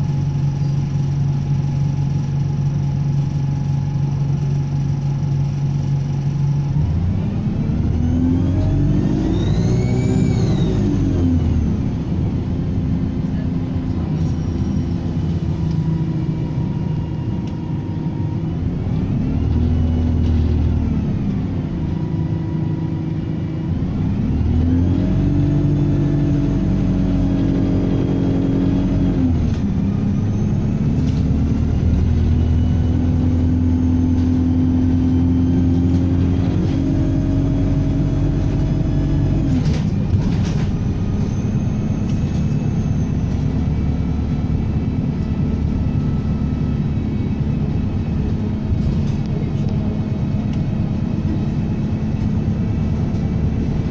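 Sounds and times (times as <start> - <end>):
diesel bus engine accelerating: 0.0 - 53.9.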